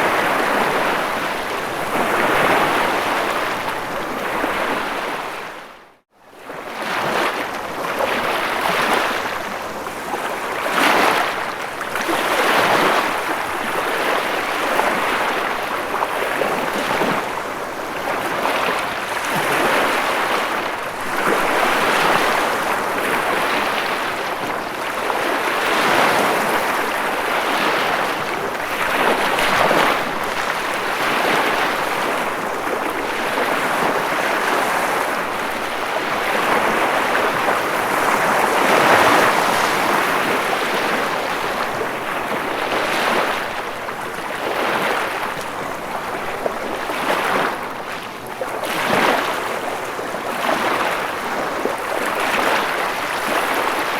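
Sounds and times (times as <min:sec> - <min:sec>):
ocean waves breaking: 0:00.0 - 0:05.6, 0:06.7 - 0:53.9.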